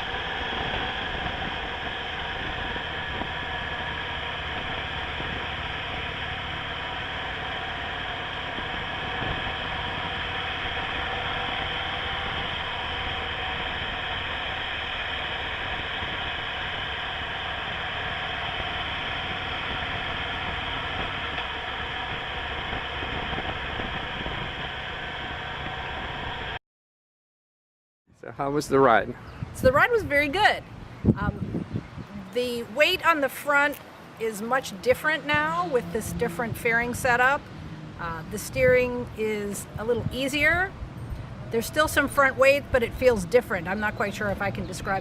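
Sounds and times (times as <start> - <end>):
motorcycle engine running: 0.0 - 26.6, 32.1 - 45.0
wind rushing over microphone: 0.0 - 26.6, 28.6 - 45.0.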